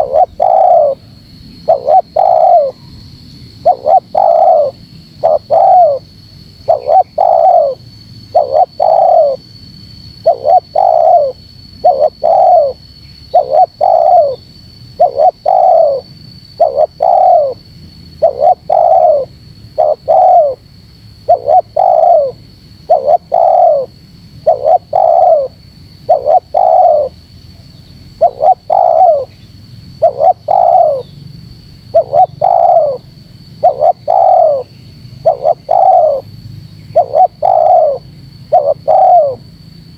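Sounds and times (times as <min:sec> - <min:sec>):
dove cooing: 0:00.0 - 0:02.9, 0:03.6 - 0:09.5, 0:10.2 - 0:27.3, 0:28.0 - 0:31.1, 0:31.8 - 0:39.6.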